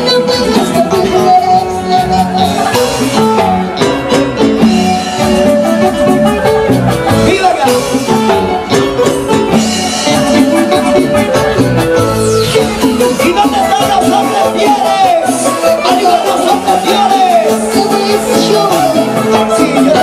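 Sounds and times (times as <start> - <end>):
live band dance music: 0.0 - 20.0.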